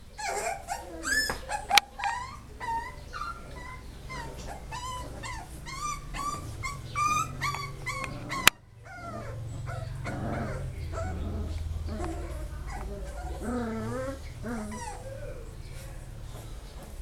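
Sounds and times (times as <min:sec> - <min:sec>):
puppies whimpering and yipping: 0:00.0 - 0:17.0.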